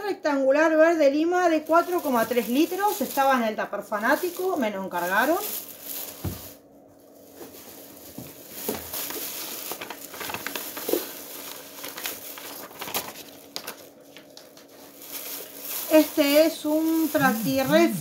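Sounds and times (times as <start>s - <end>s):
packaging rustling and crinkling: 1.5s - 18.0s.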